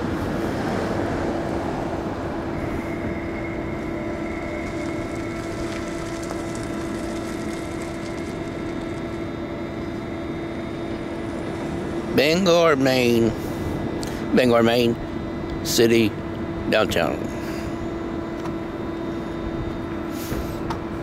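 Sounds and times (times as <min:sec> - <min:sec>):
city noise: 0:00.0 - 0:21.0
mechanical hum: 0:00.0 - 0:21.0.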